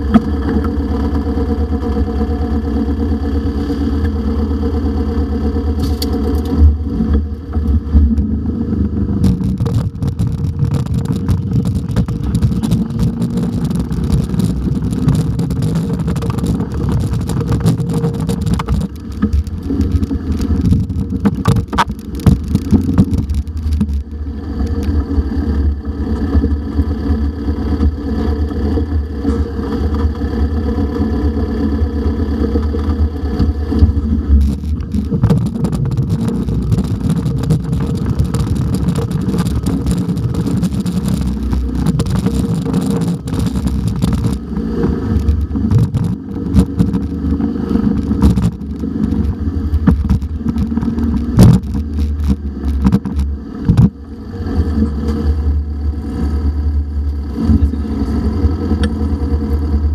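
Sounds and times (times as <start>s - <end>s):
dune buggy engine rumble: 0.0s - 59.9s
wind: 0.0s - 59.9s.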